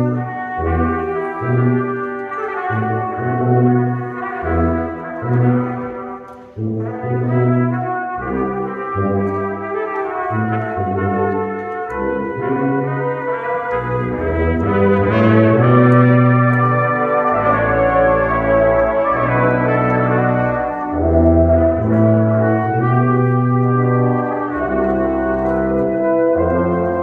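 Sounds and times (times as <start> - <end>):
trumpets: 0.0 - 27.0
tuba notes: 0.0 - 27.0.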